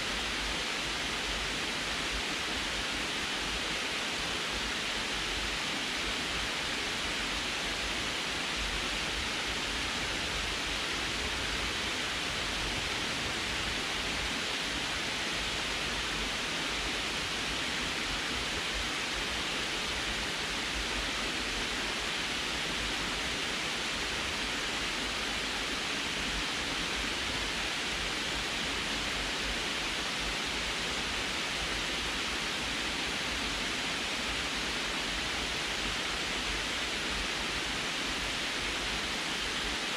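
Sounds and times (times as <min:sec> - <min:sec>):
water rushing over spillway: 0:00.1 - 0:39.9.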